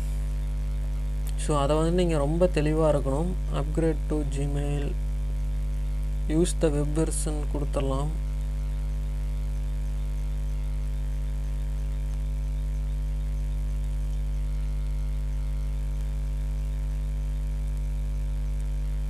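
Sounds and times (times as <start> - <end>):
mains hum: 0.0 - 19.0.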